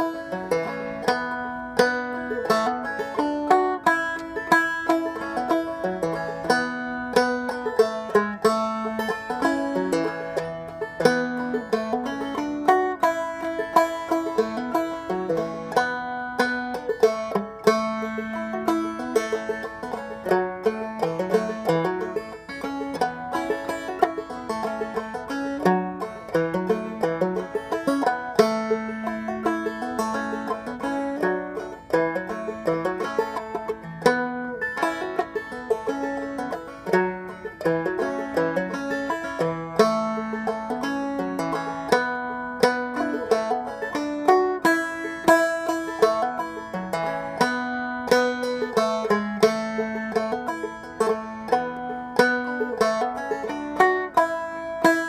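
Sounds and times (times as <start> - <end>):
banjo playing old-time tune: 0.0 - 55.0.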